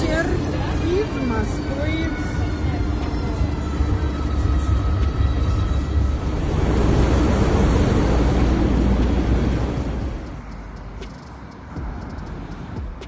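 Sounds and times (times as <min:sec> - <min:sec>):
vehicle low rumble: 0:00.0 - 0:13.0.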